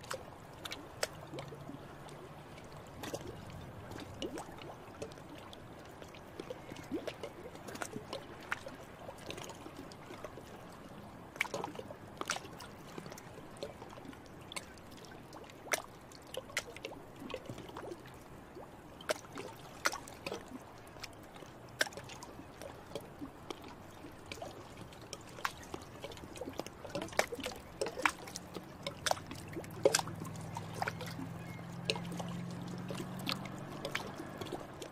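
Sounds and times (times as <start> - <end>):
faint water trickle: 0.0 - 34.9
water plopping and dripping: 0.0 - 34.9.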